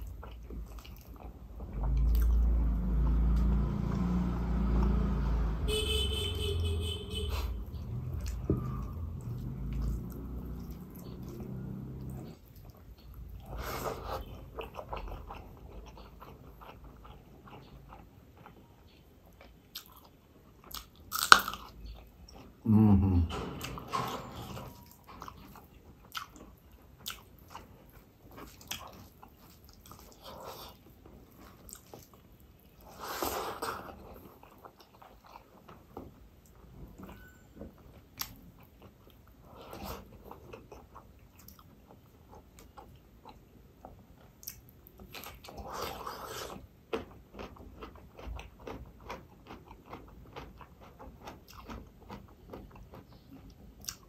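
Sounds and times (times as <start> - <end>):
man chewing food: 0.0 - 5.2, 7.2 - 54.0.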